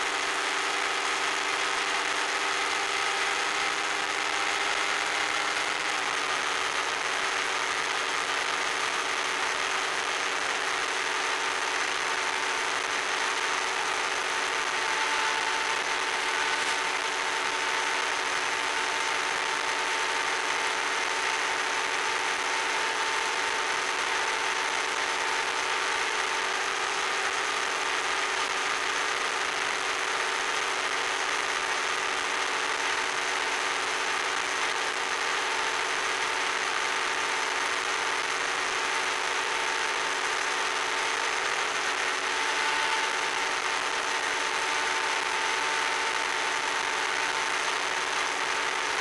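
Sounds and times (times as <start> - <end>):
model plane motor whine: 0.0 - 49.0.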